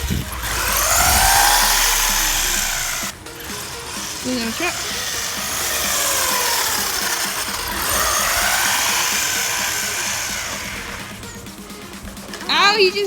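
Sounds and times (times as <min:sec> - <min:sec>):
steady hiss: 0:00.0 - 0:13.0
toy truck electric motor whining: 0:00.0 - 0:13.0.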